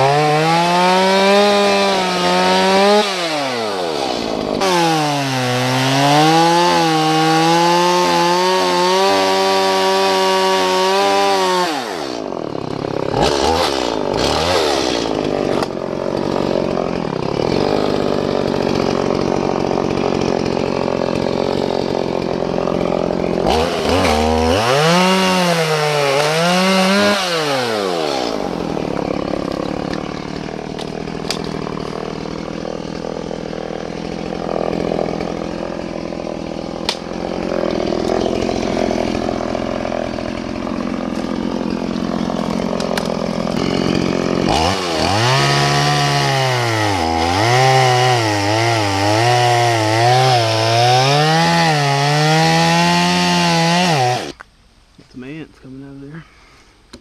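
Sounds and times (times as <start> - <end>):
chainsaw sawing wood: 0.0 - 54.4.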